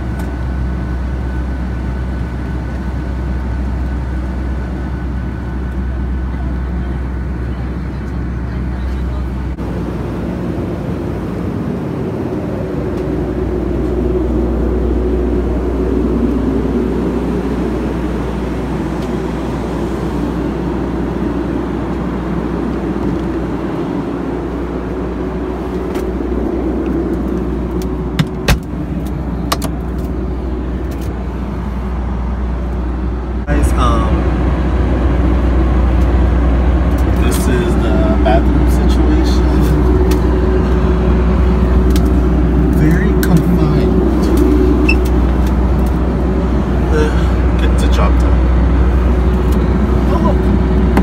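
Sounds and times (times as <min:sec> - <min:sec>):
airliner cabin rumble and hiss: 0:00.0 - 0:51.0.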